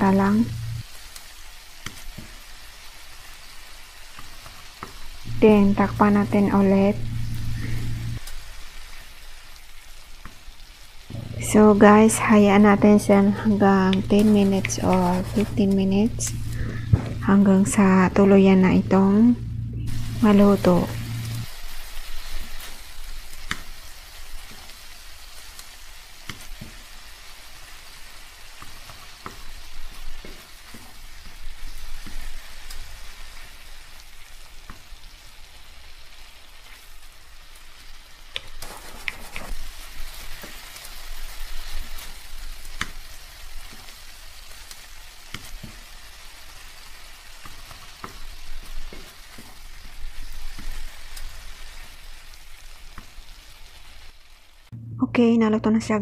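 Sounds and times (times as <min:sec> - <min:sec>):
fish sizzling in a pan: 0:00.0 - 0:18.0, 0:19.4 - 0:54.7.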